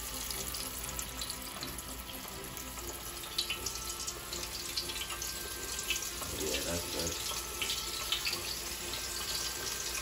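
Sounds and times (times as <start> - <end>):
fish sizzling in hot oil: 0.0 - 10.0
oil crackling and popping: 0.0 - 10.0.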